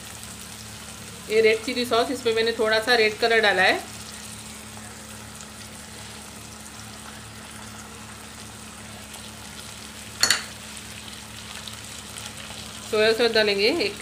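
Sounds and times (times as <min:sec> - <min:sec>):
oil and spices sizzling: 0:00.0 - 0:14.0.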